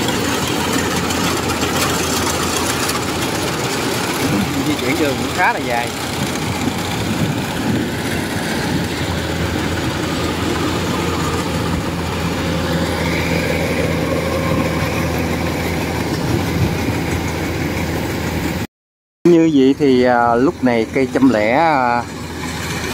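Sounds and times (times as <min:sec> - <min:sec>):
threshing machinery rattling: 0:00.0 - 0:18.6
combine harvester engine drone: 0:00.0 - 0:18.7, 0:19.3 - 0:22.9.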